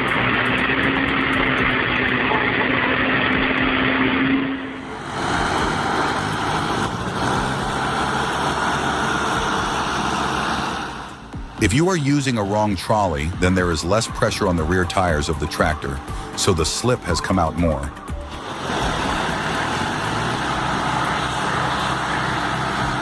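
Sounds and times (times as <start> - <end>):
tractor engine low hum: 0.0 - 23.0
tractor engine running hard: 0.0 - 23.0.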